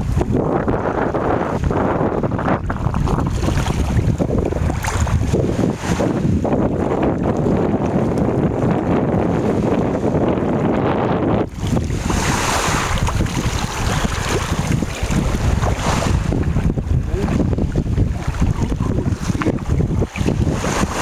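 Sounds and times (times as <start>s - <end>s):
sea waves splashing: 0.0s - 10.2s, 11.5s - 21.0s
wind buffeting microphone: 0.0s - 21.0s.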